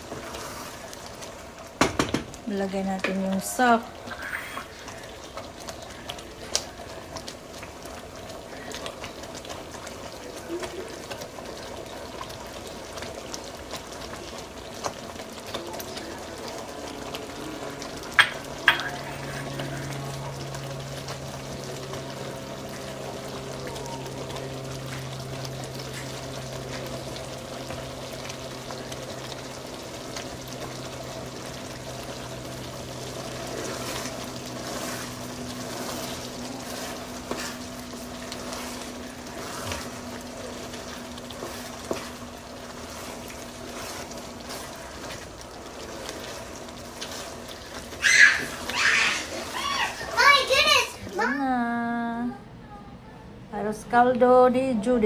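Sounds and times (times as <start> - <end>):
pot sizzling and bubbling: 0.0 - 52.4.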